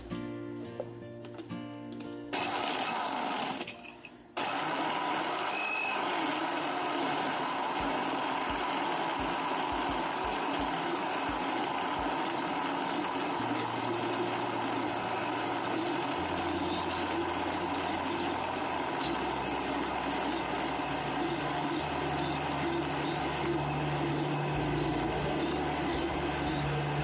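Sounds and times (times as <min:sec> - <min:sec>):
blender crushing ice: 0:02.3 - 0:03.8, 0:04.4 - 0:27.0.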